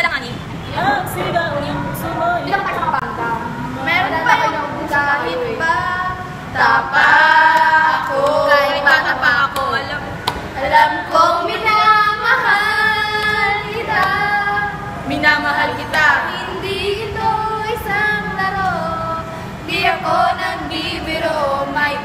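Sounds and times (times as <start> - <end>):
women singing together: 0.6 - 22.0.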